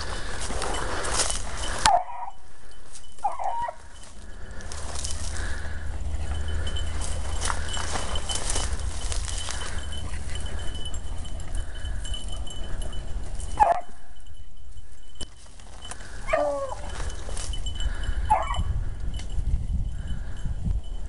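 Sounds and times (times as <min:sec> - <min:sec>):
hounds baying: 0:00.0 - 0:18.8.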